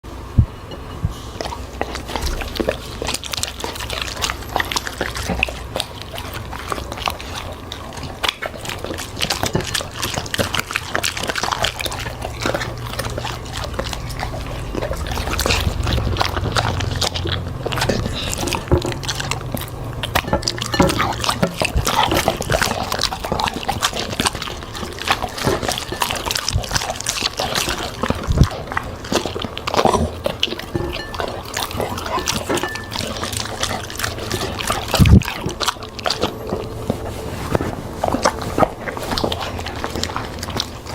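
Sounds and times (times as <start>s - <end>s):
dog chewing with crunches: 0.0s - 40.9s.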